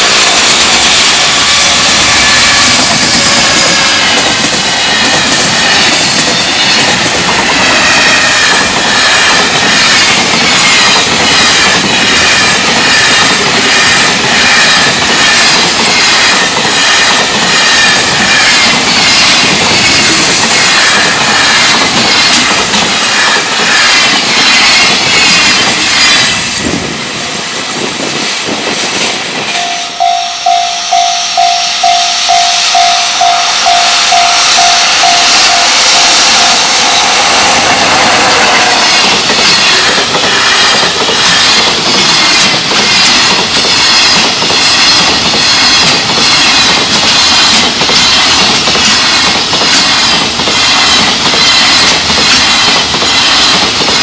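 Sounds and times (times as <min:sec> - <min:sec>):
wheels clacking over rail joints: 0:00.0 - 0:26.9, 0:36.2 - 0:54.0
freight train rumbling past: 0:00.0 - 0:54.0
high ringing wheels on rails: 0:00.0 - 0:54.0
level-crossing warning bell: 0:00.1 - 0:24.0, 0:29.5 - 0:54.0.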